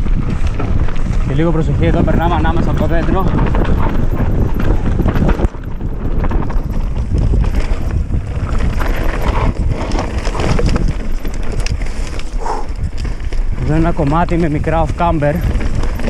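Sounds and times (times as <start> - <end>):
bike rattling over bumps: 0.0 - 16.0
tyres crunching over dirt: 0.0 - 16.0
wind buffeting microphone: 0.0 - 16.0.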